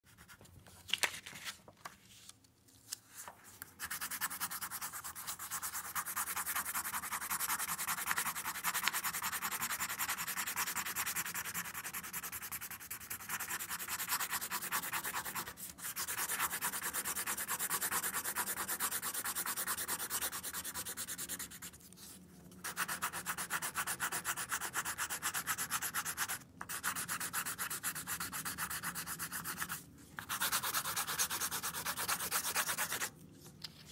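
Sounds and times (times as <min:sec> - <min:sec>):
pencil scribbling on paper: 0:03.8 - 0:33.1.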